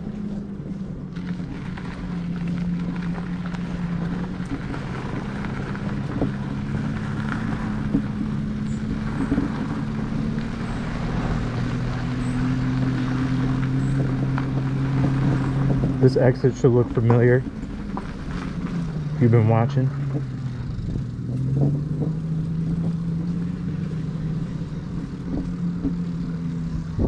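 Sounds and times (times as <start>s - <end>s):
tyres rolling over gravel: 0.0s - 27.0s.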